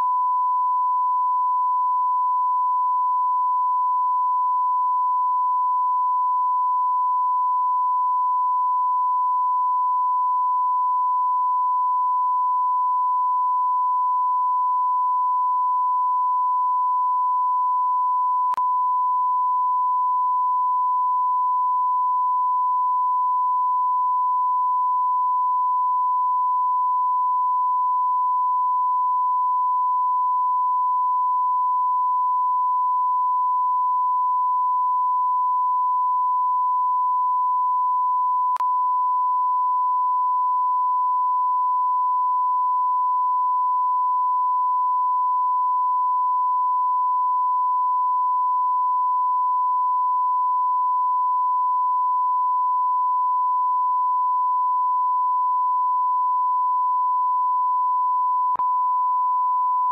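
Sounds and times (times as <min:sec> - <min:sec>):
sine-wave test tone: 0:00.0 - 0:59.9.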